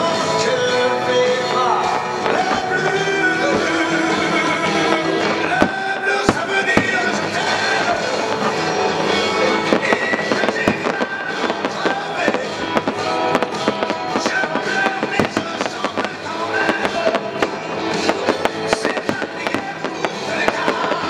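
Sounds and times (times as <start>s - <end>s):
fireworks bangs and crackles: 0.0s - 21.0s
loud music: 0.0s - 21.0s.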